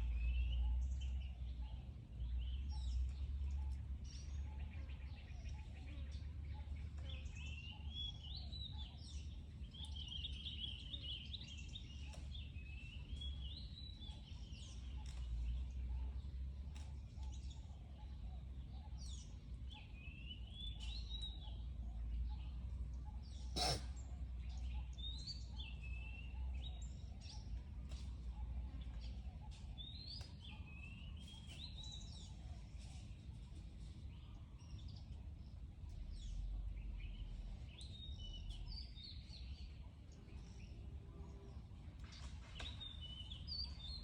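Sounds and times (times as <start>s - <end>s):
birds chirping and trilling: 0.0s - 44.0s.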